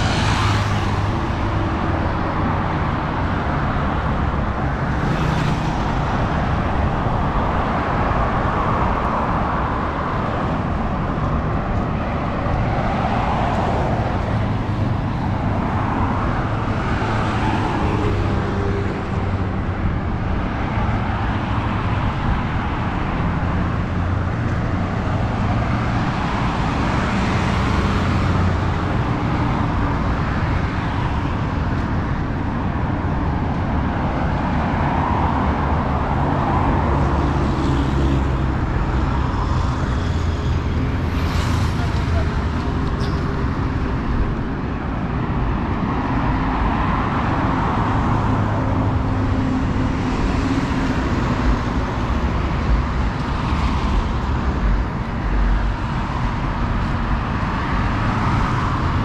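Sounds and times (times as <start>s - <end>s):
vehicles rumbling on highway: 0.0s - 59.0s.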